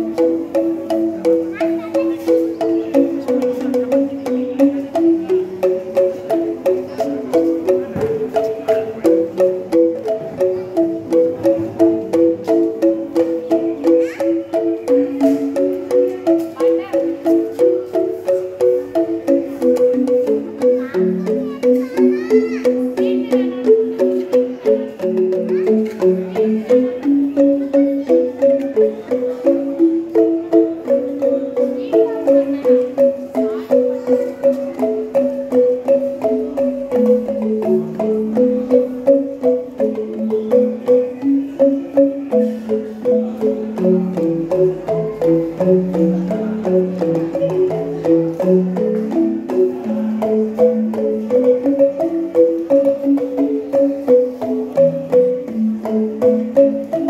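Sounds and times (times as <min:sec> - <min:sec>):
angklung ensemble playing: 0:00.0 - 0:57.0.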